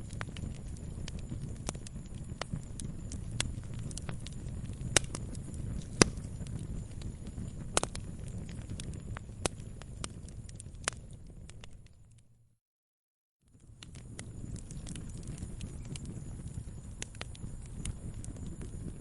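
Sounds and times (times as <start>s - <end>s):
fire pops and snaps: 0.0s - 12.3s, 13.5s - 19.0s
low rumble of flames: 0.0s - 12.5s, 13.5s - 19.0s.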